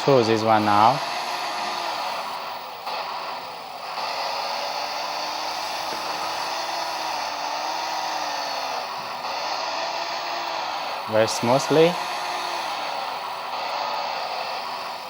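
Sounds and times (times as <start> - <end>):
hydraulic pump whirring: 0.0 - 15.0
simulated engine sound from speakers: 0.0 - 15.0.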